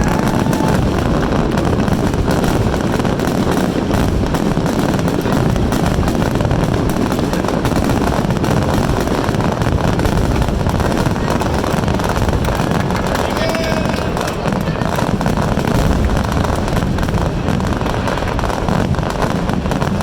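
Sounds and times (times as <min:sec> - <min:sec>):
fireworks booming and crackling: 0:00.0 - 0:20.0.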